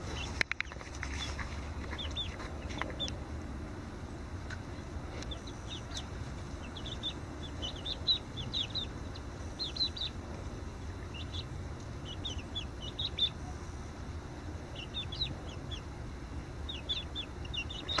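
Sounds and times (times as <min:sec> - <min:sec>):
chicks peeping: 0:00.0 - 0:18.0
low background noise: 0:00.0 - 0:18.0.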